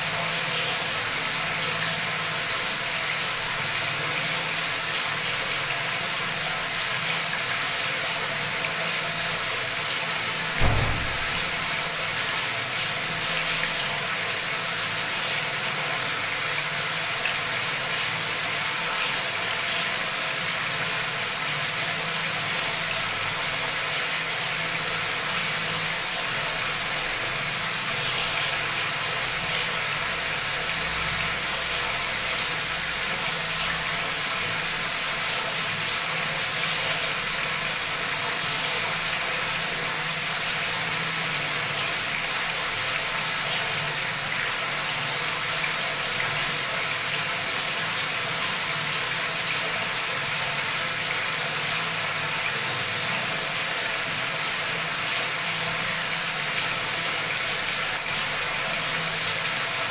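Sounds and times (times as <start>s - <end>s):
tap water pouring into tub: 0.0s - 59.9s.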